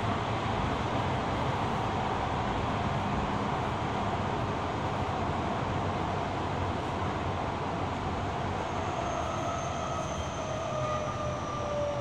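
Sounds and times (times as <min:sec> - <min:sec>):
train rolling along track: 0:00.0 - 0:12.0.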